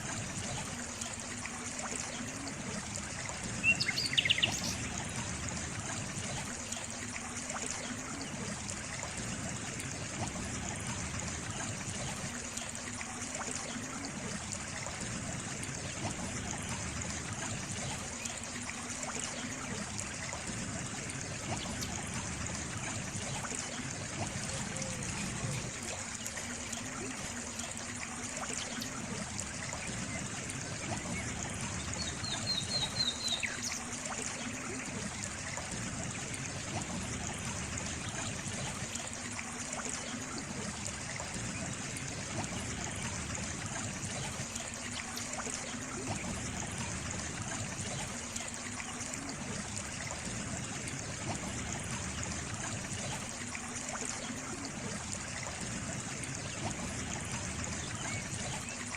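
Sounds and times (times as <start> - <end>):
water trickling: 0.0 - 58.9.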